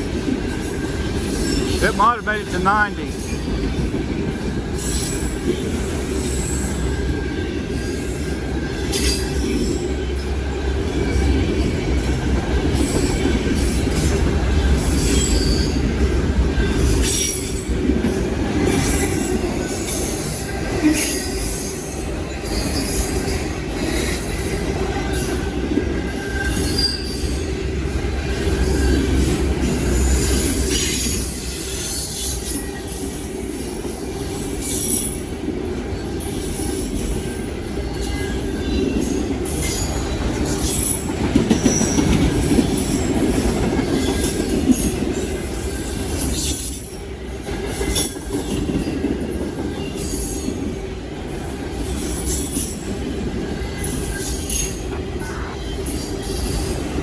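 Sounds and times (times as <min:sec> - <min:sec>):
train wheels running on rail: 0:00.0 - 0:57.0.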